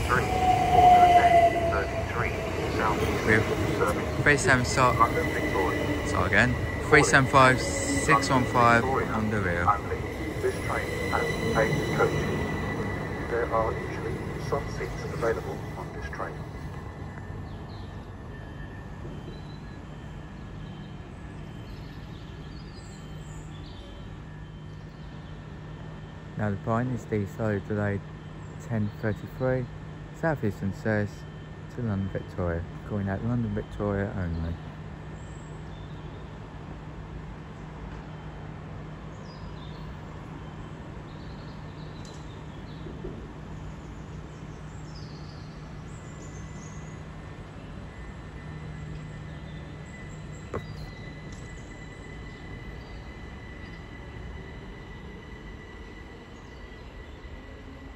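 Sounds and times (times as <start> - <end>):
electric train humming: 0.0 - 35.7, 36.3 - 57.9
faint bird chirps: 0.0 - 36.5, 39.1 - 57.9
station background noise: 0.0 - 57.9.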